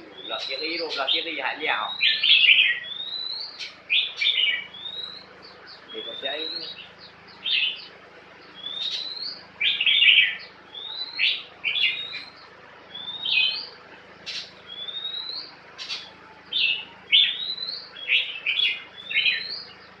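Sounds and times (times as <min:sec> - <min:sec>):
caged songbirds singing: 0:00.0 - 0:20.0.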